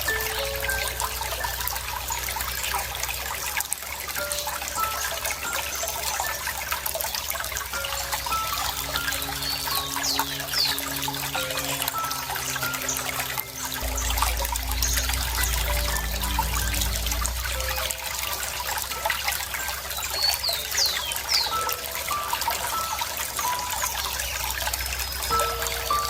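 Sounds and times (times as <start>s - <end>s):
birds chirping: 0.0s - 26.0s
water trickling: 0.0s - 26.0s.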